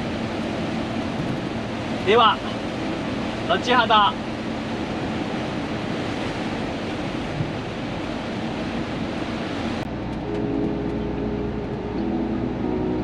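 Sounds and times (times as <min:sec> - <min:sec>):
heavy rain and road spray rushing: 0:00.0 - 0:12.6
truck engine hum: 0:00.0 - 0:13.0.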